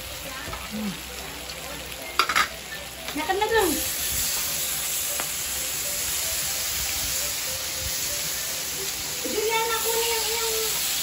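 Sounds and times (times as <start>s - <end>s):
pork sizzling on a grill pan: 0.0s - 11.0s.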